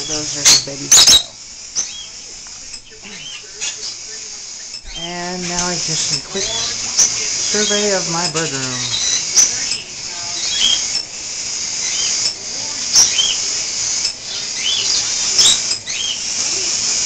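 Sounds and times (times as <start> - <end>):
caged birds chirping: 0.0 - 17.0.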